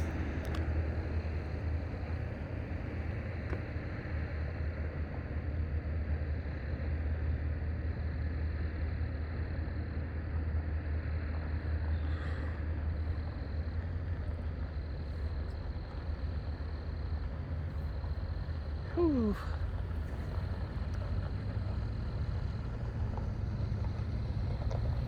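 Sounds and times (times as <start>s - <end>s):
engine low rumble: 0.0s - 25.0s.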